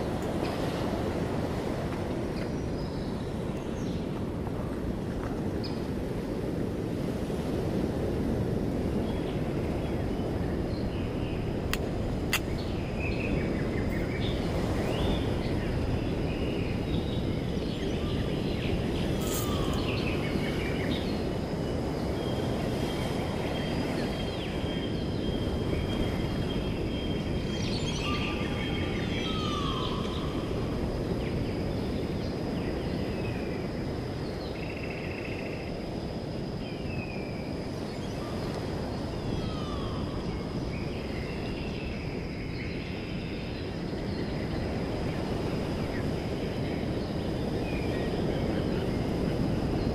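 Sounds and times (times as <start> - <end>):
distant surf: 0.0 - 34.5, 35.4 - 49.9
wind: 0.0 - 49.9.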